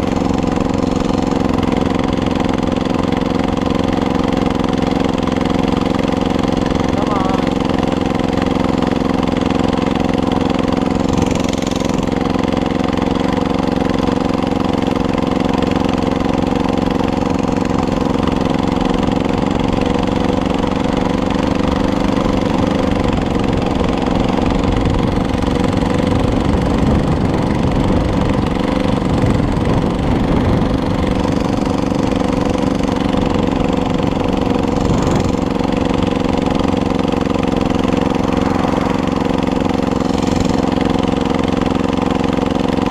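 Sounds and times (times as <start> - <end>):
motorized bike engine running: 0.0 - 42.9.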